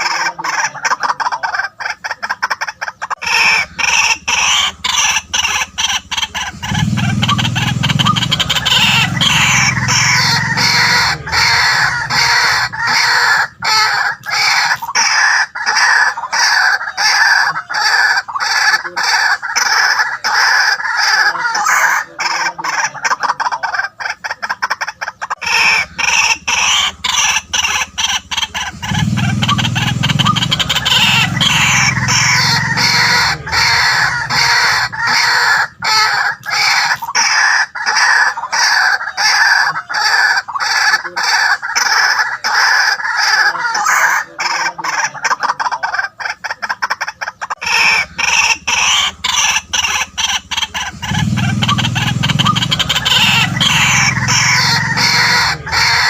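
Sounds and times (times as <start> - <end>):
waterhens calling: 0.0 - 56.0.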